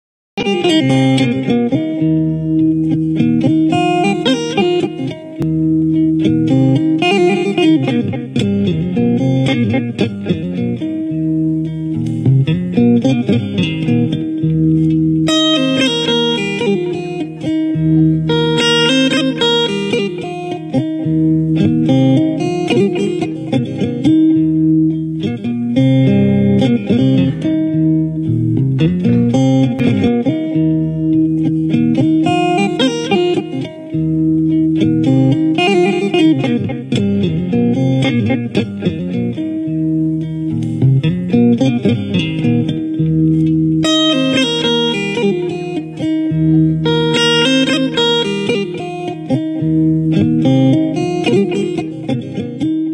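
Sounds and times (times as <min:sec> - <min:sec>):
plucked guitar melody: 0:00.4 - 0:52.9.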